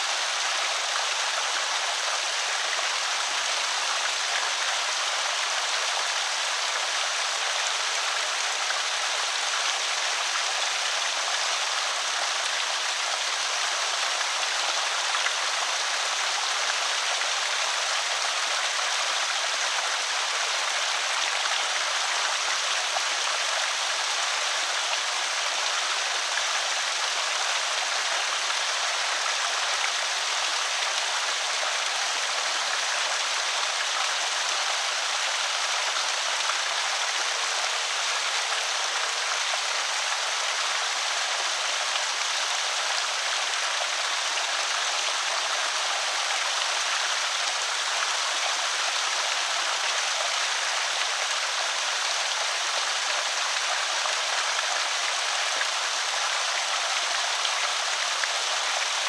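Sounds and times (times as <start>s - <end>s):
water pouring over a spillway: 0.0s - 59.0s.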